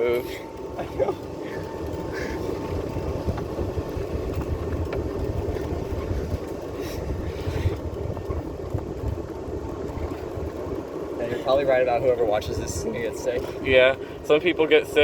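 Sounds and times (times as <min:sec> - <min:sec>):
cart clicks and rattles: 0:00.0 - 0:15.0
golf cart rumbling: 0:00.0 - 0:15.0
wind buffeting microphone: 0:00.0 - 0:15.0.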